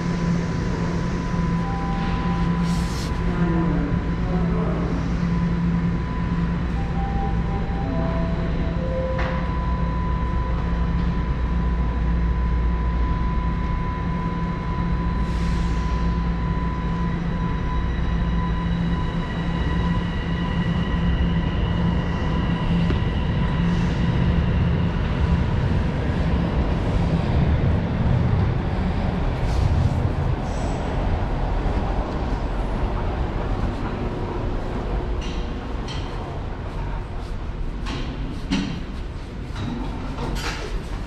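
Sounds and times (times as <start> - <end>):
subway train rumble: 0.0 - 41.0.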